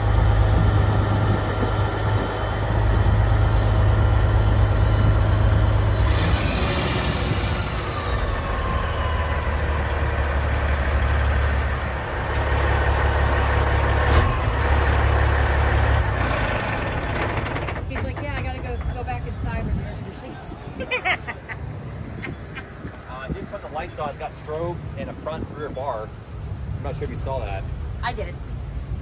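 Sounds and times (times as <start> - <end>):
diesel engine idling: 0.0 - 25.3.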